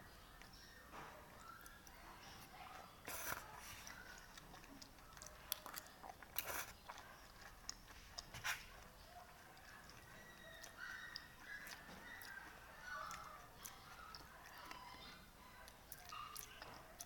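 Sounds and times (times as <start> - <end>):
chewing: 0.1 - 17.0.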